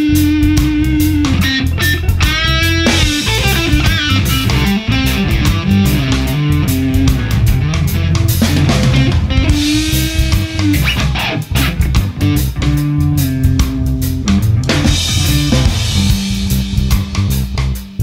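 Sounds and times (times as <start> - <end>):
bass guitar: 0.0 - 18.0
electric guitar: 0.0 - 18.0
steady drum beat: 0.0 - 18.0.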